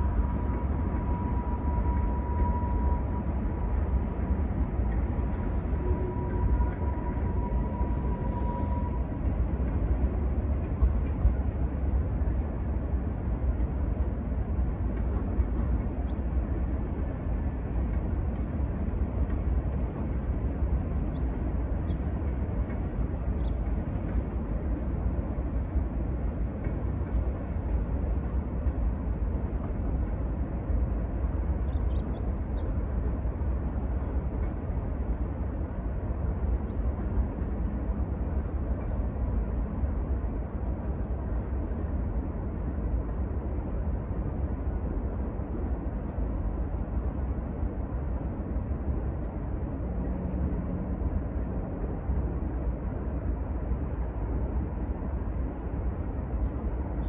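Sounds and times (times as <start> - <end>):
distant freight train rumbling: 0.0 - 57.0.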